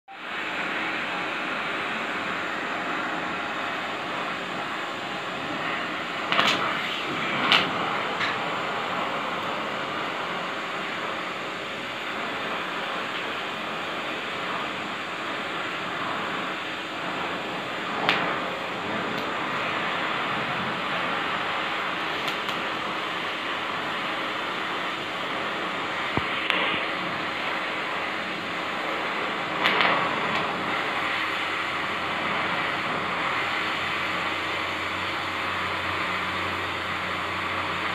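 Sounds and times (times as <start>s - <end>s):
welding arc crackling and hissing: 0.1s - 37.9s.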